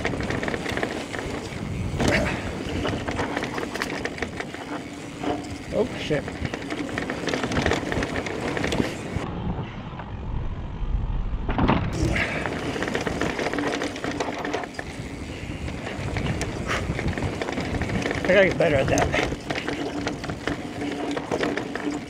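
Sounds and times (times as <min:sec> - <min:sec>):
bike rattling over bumps: 0:00.0 - 0:09.2, 0:11.5 - 0:22.0
bike tyres on dirt: 0:00.0 - 0:09.8, 0:11.9 - 0:22.0.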